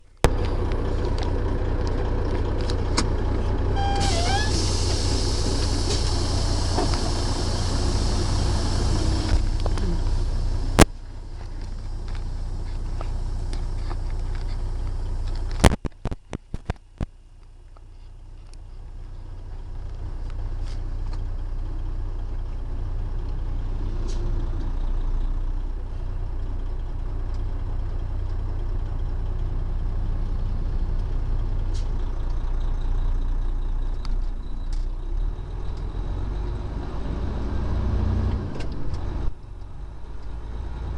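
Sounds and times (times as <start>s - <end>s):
truck engine drone: 0.0s - 15.9s, 16.8s - 40.9s
road noise: 0.0s - 40.9s.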